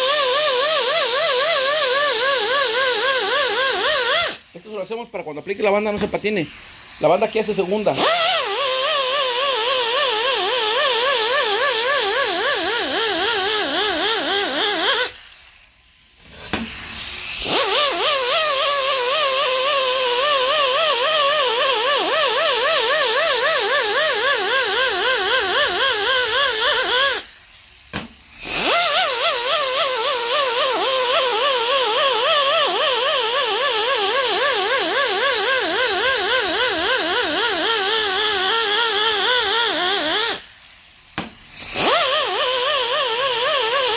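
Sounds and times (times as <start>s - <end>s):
air die grinder whine: 0.0s - 43.9s.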